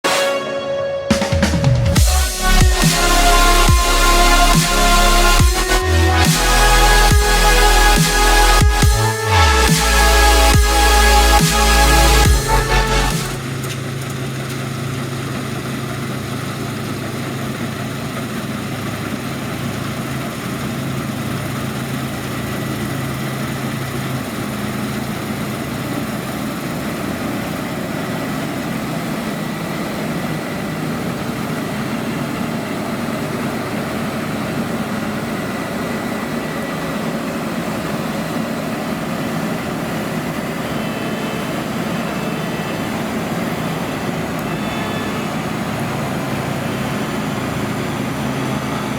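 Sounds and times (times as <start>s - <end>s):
heavy diesel engine running: 1.2s - 48.9s.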